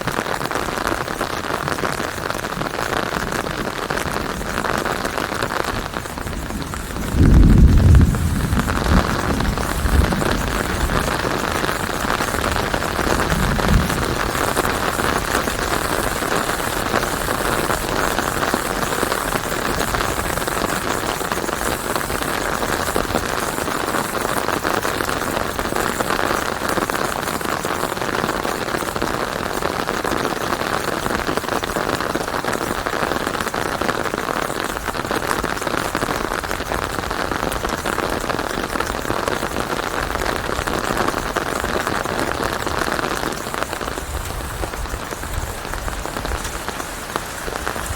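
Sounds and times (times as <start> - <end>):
rain falling on leaves: 0.0 - 47.9.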